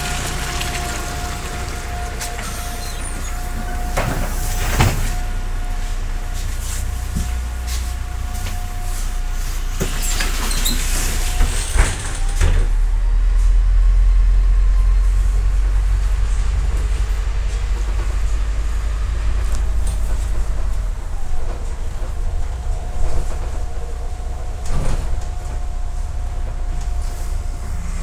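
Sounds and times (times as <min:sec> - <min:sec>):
bus engine rumble from inside: 0:00.0 - 0:28.0.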